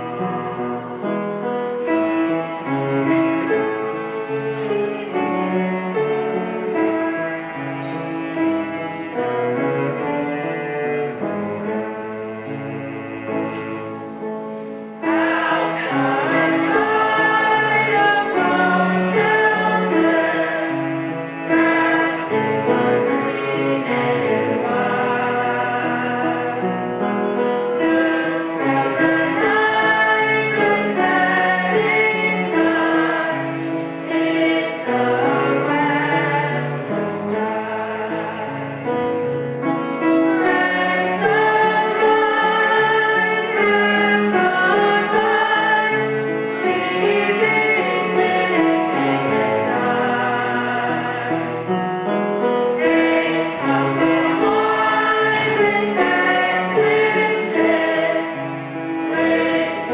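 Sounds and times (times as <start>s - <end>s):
bowed cello: 0.0s - 59.9s
children's choir singing: 0.0s - 59.9s.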